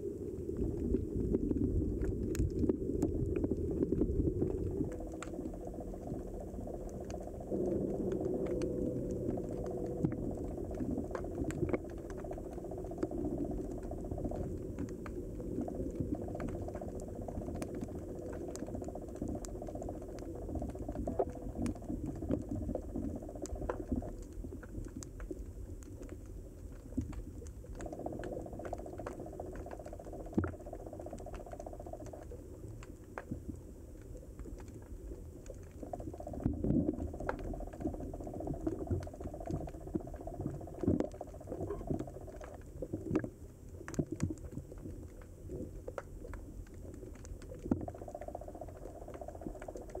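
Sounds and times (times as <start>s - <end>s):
muffled underwater water rush: 0.0s - 50.0s
small crackling clicks: 0.1s - 50.0s.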